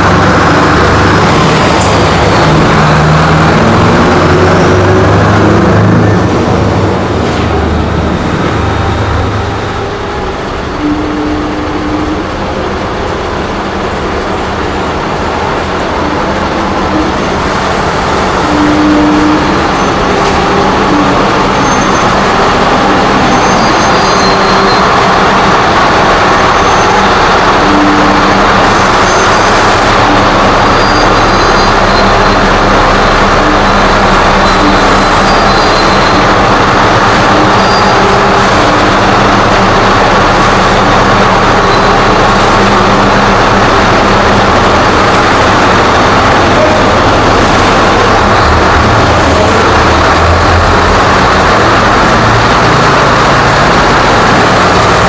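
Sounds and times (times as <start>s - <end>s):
truck diesel engines passing: 0.0s - 55.0s.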